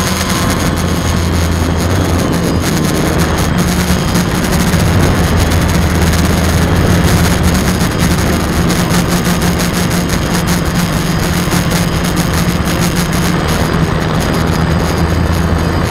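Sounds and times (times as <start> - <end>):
drone motors buzzing: 0.0 - 15.9
rushing noise: 0.0 - 15.9.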